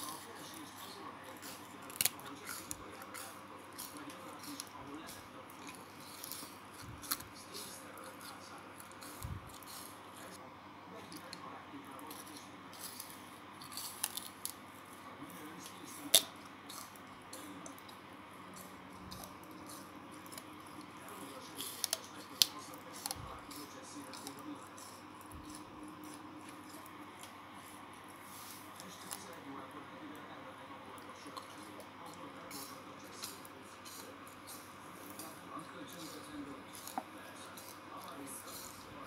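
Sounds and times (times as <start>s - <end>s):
chewing crunches and clicks: 0.0s - 10.4s, 12.0s - 14.6s, 15.3s - 27.4s, 31.0s - 38.8s
faint steady hum: 0.0s - 39.0s.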